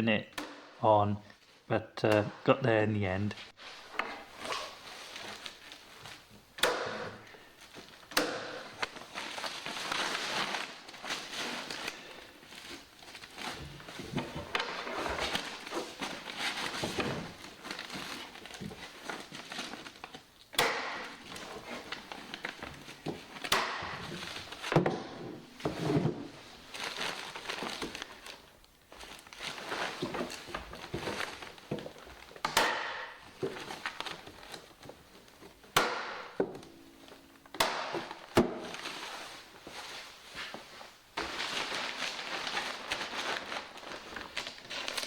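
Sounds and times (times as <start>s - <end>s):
fabric rustling and crinkling: 3.4s - 6.6s, 7.2s - 20.4s, 21.0s - 24.8s, 25.4s - 32.4s, 33.1s - 45.0s.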